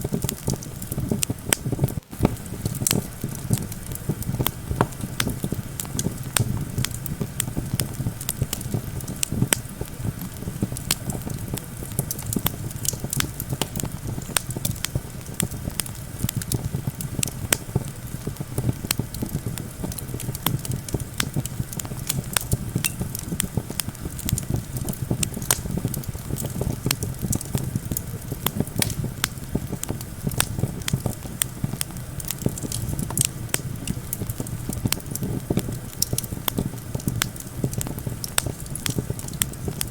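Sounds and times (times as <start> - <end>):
campfire crackling and popping: 0.0 - 39.9
low rumble of wind: 0.0 - 39.9.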